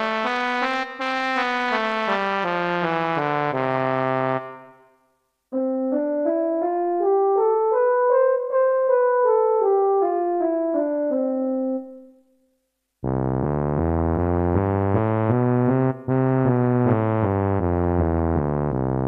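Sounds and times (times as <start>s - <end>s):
keyboard playing scale: 0.0s - 4.8s, 5.5s - 12.2s, 13.0s - 19.0s.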